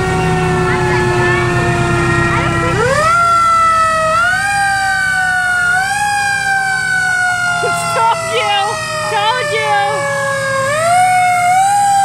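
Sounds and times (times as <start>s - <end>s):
fire engine siren: 0.0s - 12.0s
trucks rumbling: 0.0s - 12.0s.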